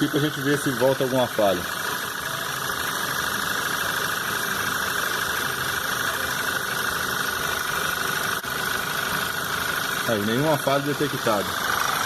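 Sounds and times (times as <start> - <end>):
car engine idling: 0.0 - 12.0
fine rapid ticking: 0.0 - 12.0
steady high whine: 0.0 - 12.0.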